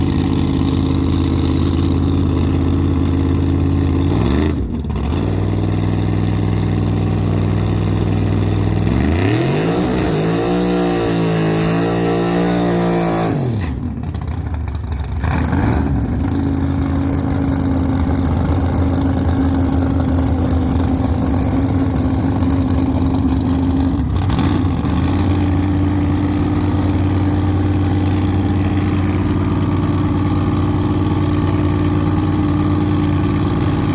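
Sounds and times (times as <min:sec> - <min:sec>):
engine idling and revving: 0:00.0 - 0:33.9.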